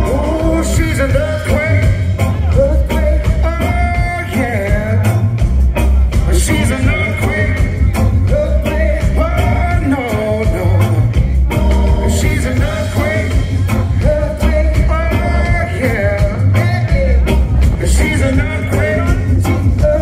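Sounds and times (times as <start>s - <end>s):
live reggae band: 0.0s - 20.0s
man singing: 0.0s - 20.0s.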